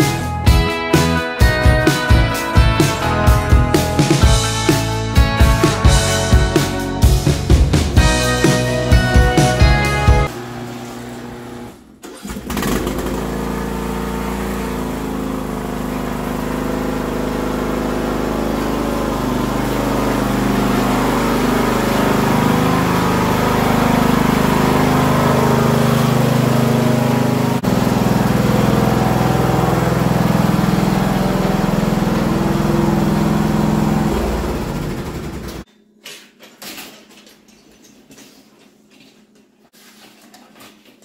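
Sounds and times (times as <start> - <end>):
riding lawn tractor engine: 0.0 - 35.7.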